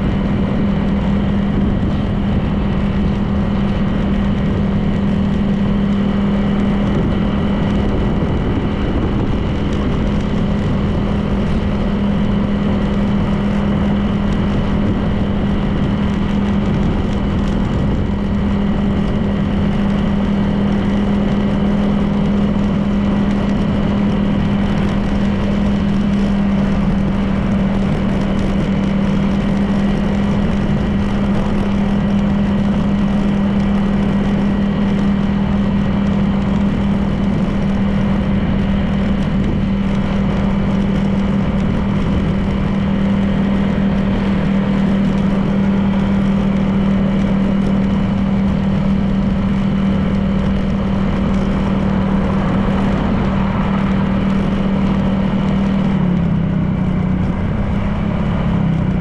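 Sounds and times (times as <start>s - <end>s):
road noise: 0.0s - 59.0s
scooter engine running: 0.0s - 59.0s.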